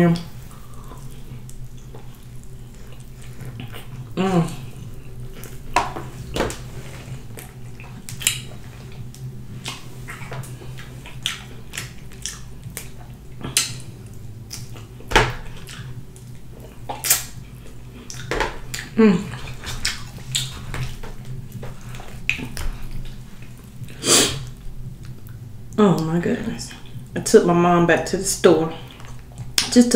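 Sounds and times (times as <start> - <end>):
low hum: 0.0 - 29.7
wet chewing and lip-smacking: 0.4 - 26.1, 28.8 - 29.8.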